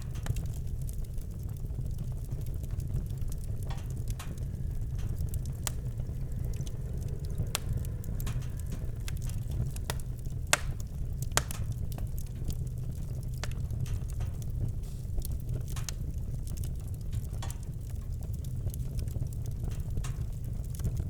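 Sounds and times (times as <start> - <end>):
campfire crackling and popping: 0.0 - 21.0
low rumble: 0.0 - 21.0.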